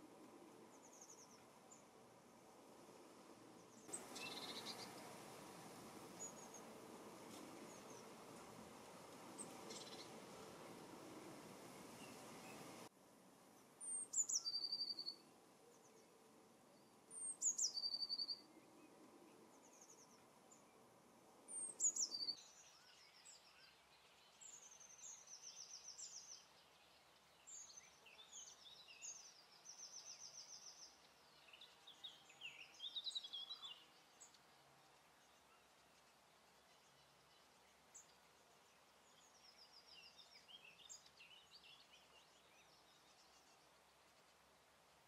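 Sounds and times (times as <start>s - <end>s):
bird calls and twittering song: 0.0s - 2.4s, 3.5s - 12.9s, 13.6s - 45.0s.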